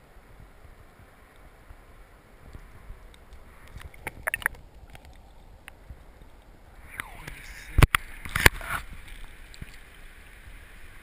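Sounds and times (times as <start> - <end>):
muffled underwater river rushing: 0.0 - 11.0.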